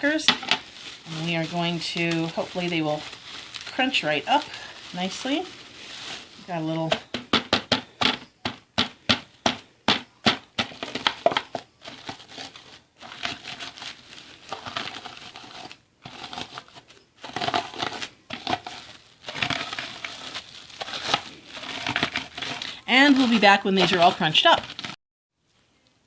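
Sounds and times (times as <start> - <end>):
crackers being crushed: 0.0 - 25.0
crumbs crunching and crinkling: 0.0 - 25.0.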